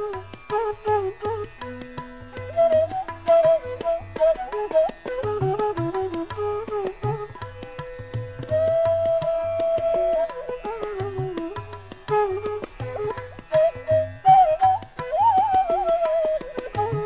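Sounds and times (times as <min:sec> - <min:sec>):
indian classical melody: 0:00.0 - 0:17.0.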